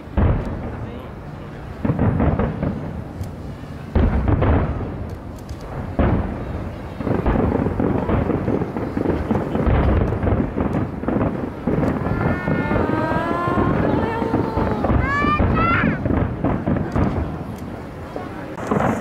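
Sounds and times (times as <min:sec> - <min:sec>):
fireworks booming bursts: 0:00.0 - 0:19.0
fireworks crackling: 0:00.0 - 0:19.0.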